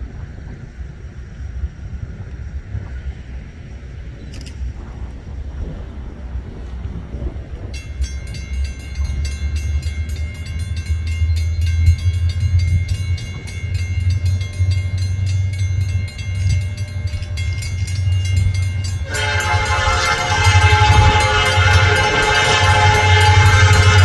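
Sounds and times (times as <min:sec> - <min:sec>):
diesel locomotive engines rumbling: 0:00.0 - 0:24.0.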